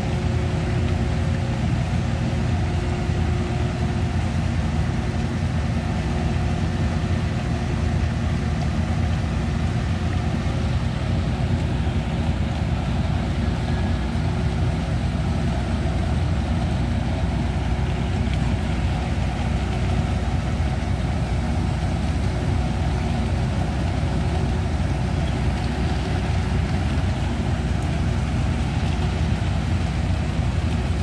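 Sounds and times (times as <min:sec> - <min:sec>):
heavy diesel machinery running: 0:00.0 - 0:31.0.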